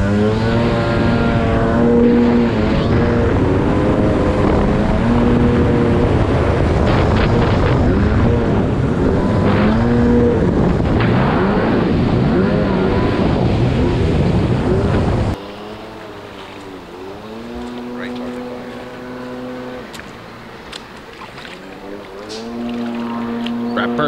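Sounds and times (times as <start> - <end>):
jet ski engine revving: 0.0 - 24.0.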